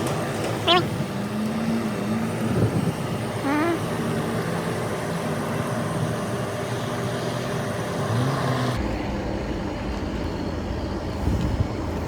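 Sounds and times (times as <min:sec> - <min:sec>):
traffic: 0:00.0 - 0:12.0.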